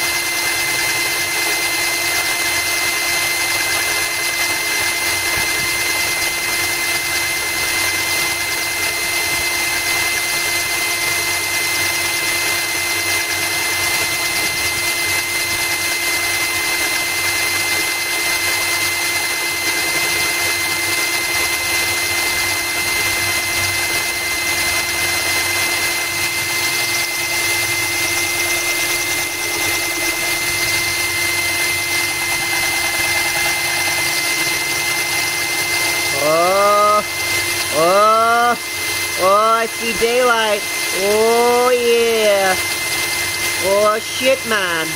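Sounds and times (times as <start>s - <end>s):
drill bit grinding through glass: 0.0s - 44.9s.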